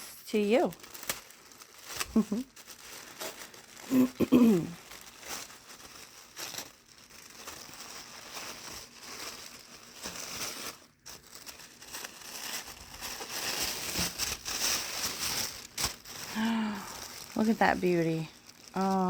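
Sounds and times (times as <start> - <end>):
paper wrapping crinkling: 0.0 - 19.0.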